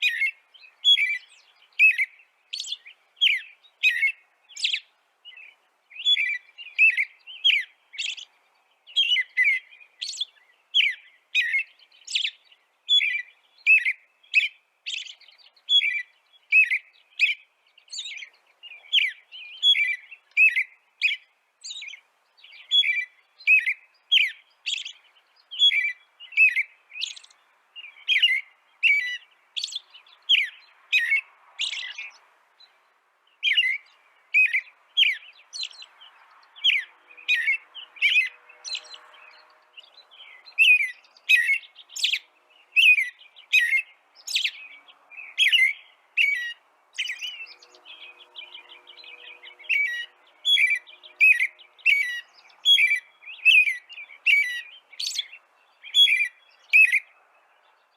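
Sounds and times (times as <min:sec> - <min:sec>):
songbird chirping: 0:00.0 - 0:57.9.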